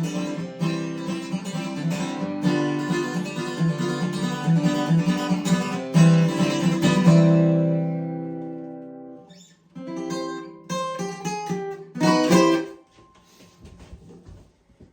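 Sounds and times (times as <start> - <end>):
acoustic guitar strummed and plucked: 0.0 - 13.4.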